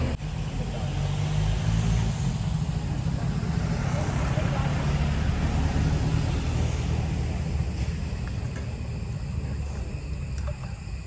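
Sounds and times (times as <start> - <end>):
faint insect trills: 1.7 - 11.0.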